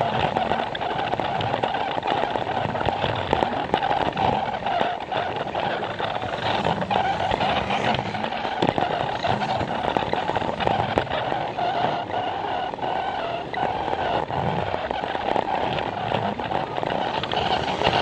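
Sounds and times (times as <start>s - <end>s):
toy train motor whir: 0.0s - 18.0s
wheels clicking over track joints: 0.0s - 18.0s.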